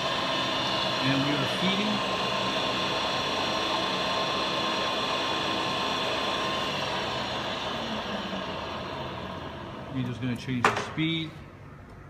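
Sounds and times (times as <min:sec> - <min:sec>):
drill motor whining: 0:00.0 - 0:10.4.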